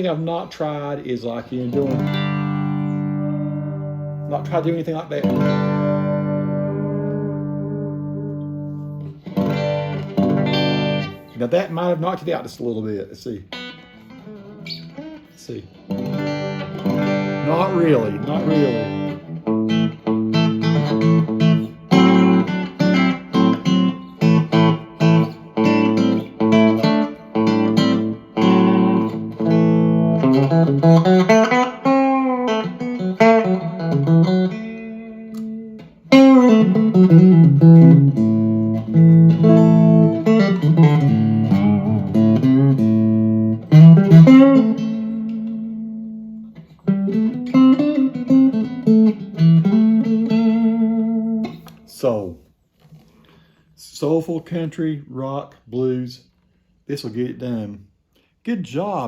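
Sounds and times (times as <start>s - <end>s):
electric guitar through amplifier: 0.0s - 11.4s, 13.5s - 51.9s.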